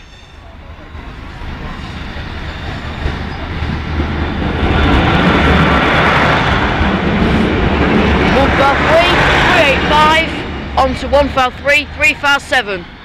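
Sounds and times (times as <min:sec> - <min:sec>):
diesel train passing: 0:00.0 - 0:13.0
train wheels on rails: 0:00.0 - 0:13.0.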